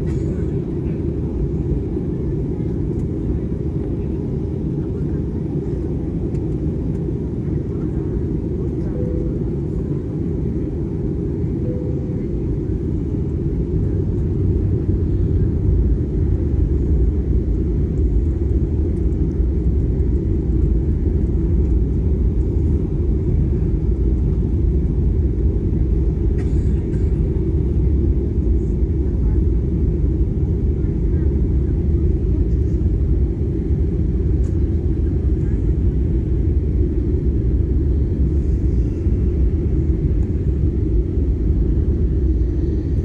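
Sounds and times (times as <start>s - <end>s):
aircraft cabin engine rumble: 0.0s - 43.0s.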